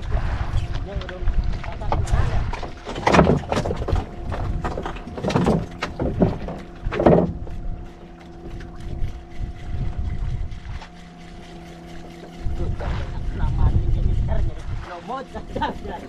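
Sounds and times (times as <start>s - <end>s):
boat engine humming: 0.0s - 16.0s
wind rumbling on microphone: 0.0s - 16.0s.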